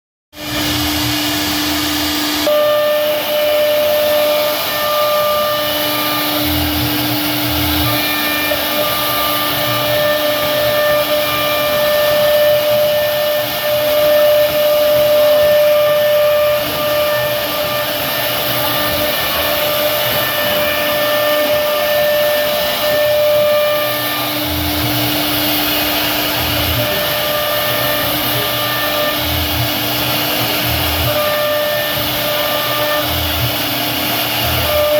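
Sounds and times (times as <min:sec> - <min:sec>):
router spindle whine carving wood: 0:00.4 - 0:34.9.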